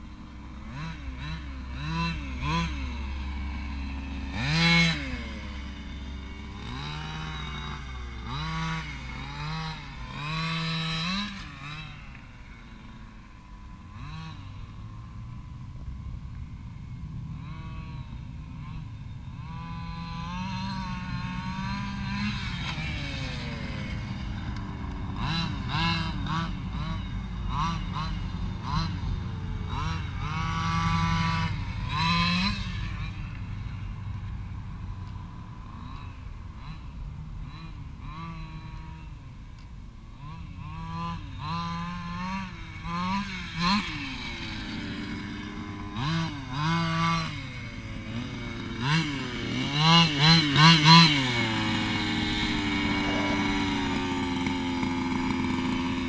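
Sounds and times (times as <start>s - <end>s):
small two-stroke engine revving: 0.0s - 56.0s.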